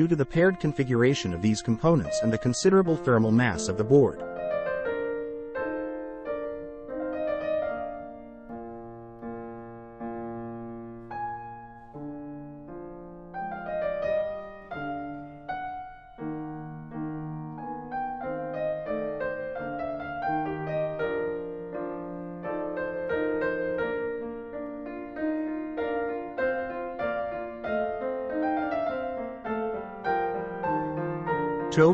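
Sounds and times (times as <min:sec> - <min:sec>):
gentle piano music: 0:00.0 - 0:31.9.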